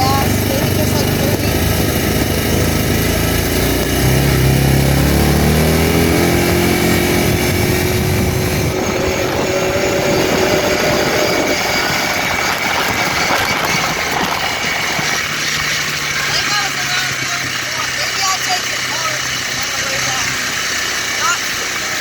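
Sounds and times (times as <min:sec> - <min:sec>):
quad bike engine accelerating: 0:00.0 - 0:22.0.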